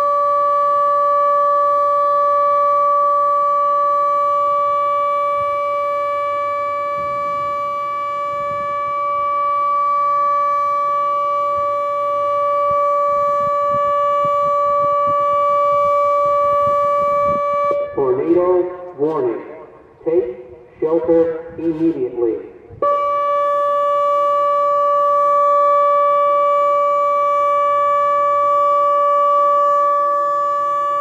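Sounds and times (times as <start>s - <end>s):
steady warning siren tone: 0.0s - 31.0s.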